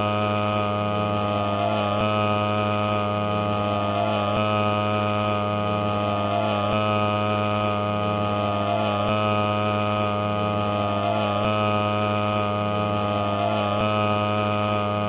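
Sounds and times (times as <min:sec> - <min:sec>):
buzzing drone: 0:00.0 - 0:15.0.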